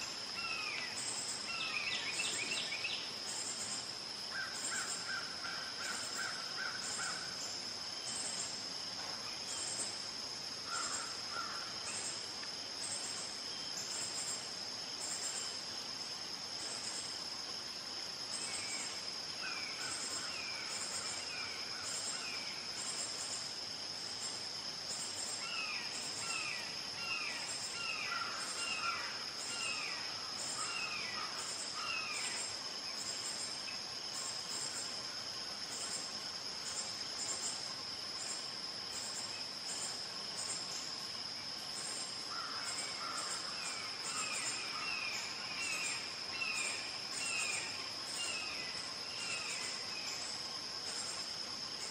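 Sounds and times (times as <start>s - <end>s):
high insect chirps: 0.0s - 51.9s
insects buzzing: 0.0s - 51.9s.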